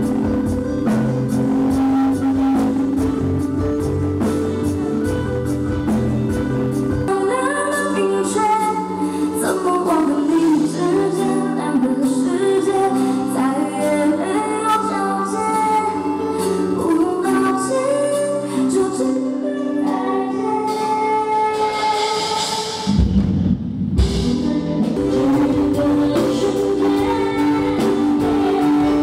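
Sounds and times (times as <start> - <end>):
live pop song through pa: 0.0 - 29.0.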